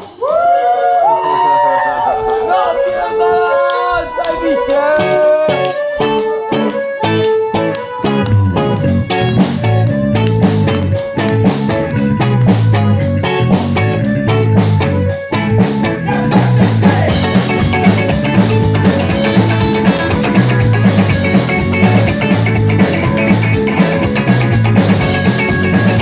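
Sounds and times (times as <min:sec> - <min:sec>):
electric guitar through amplifiers: 0:00.0 - 0:26.0
live rock band playing: 0:00.0 - 0:26.0.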